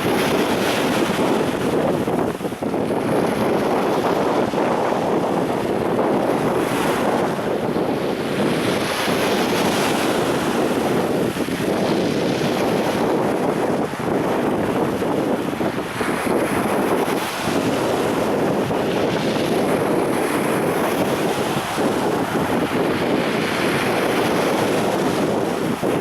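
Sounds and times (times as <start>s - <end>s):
sea waves washing onto beach: 0.0s - 26.0s.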